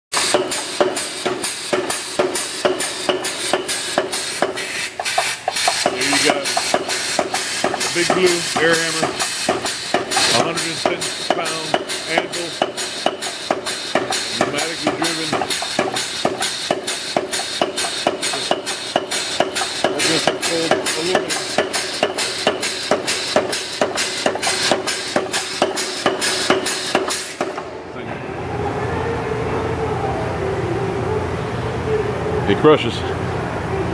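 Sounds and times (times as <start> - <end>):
air hammer pounding on anvil: 0.1 - 27.8
pneumatic hiss: 0.2 - 27.8.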